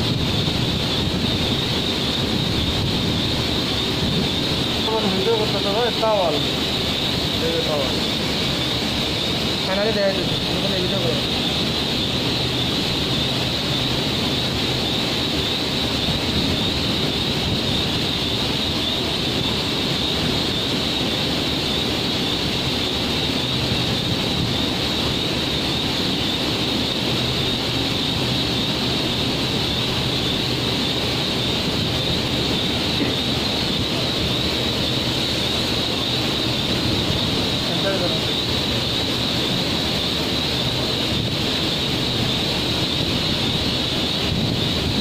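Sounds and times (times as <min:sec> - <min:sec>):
low machinery hum: 0:00.0 - 0:45.0
machinery hiss: 0:00.0 - 0:45.0.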